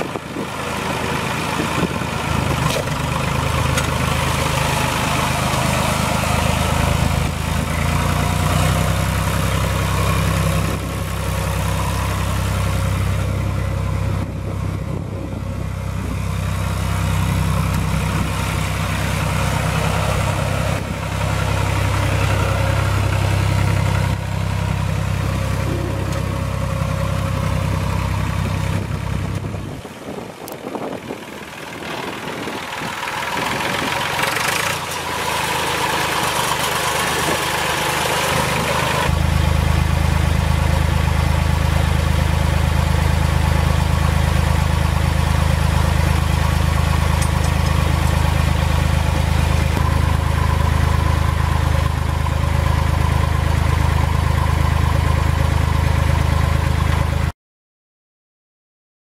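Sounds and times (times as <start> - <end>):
tractor diesel engine running: 0.0 - 57.3.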